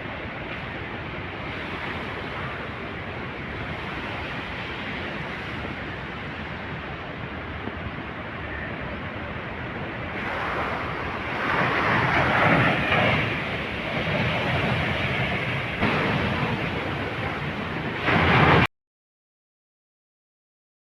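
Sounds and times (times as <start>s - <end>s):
floodwater rushing: 0.0s - 18.7s
wind buffeting microphone: 0.0s - 18.7s.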